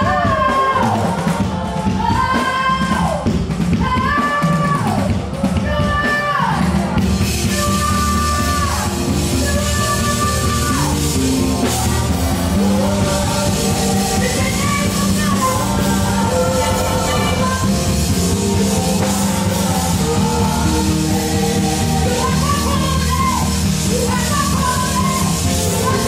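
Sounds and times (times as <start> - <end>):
voices singing: 0.0 - 3.3, 4.0 - 26.0
drum kit with cymbals: 0.0 - 26.0.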